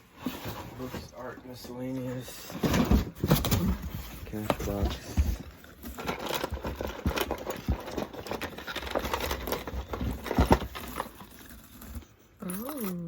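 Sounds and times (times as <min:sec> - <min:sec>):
objects rummaged in a box: 0:00.1 - 0:13.0.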